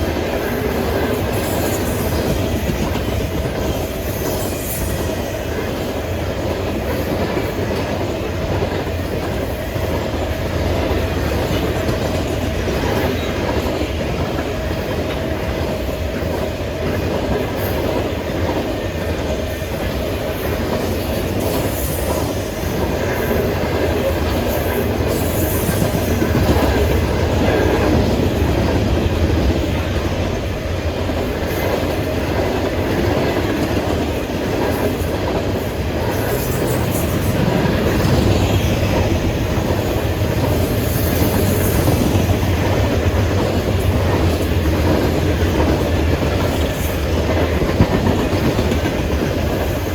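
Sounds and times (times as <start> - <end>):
freight train rumbling: 0.0 - 49.9
train wheels clicking over rail joints: 0.0 - 49.9.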